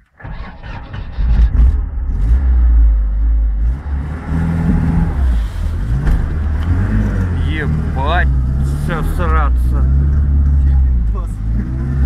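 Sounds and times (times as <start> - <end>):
van engine revving hard: 0.2 - 12.0.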